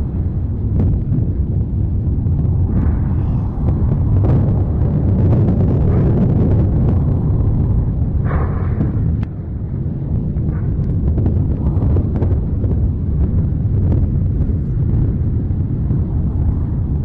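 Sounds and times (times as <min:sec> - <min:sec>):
deep continuous rumble: 0:00.0 - 0:17.0
faint crackles: 0:00.0 - 0:17.0.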